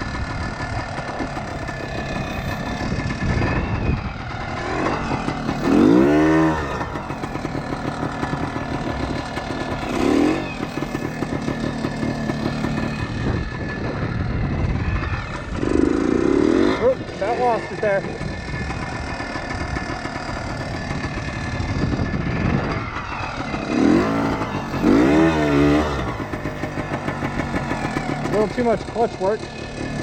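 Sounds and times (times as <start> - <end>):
two-stroke motorcycle engine revving: 0.0 - 30.0.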